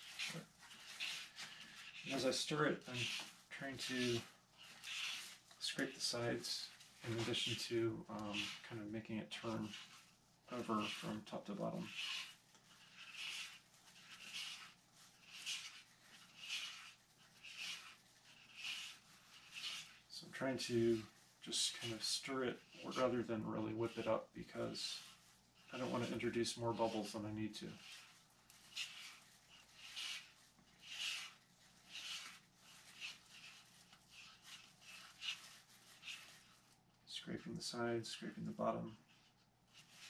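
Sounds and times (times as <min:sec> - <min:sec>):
stick scraping a mixing cup: 0:00.0 - 0:40.0.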